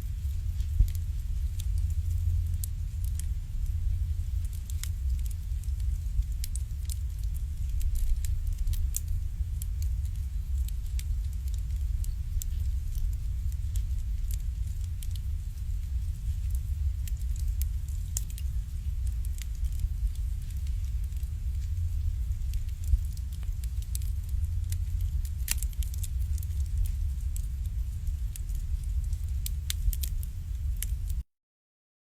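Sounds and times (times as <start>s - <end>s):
low fire rumble: 0.0s - 31.2s
wood fire crackling and popping: 0.0s - 31.2s.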